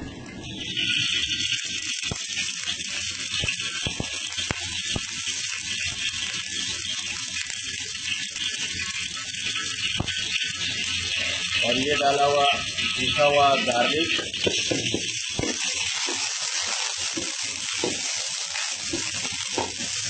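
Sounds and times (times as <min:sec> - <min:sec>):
hot oil sizzling in a wok: 0:00.0 - 0:20.0.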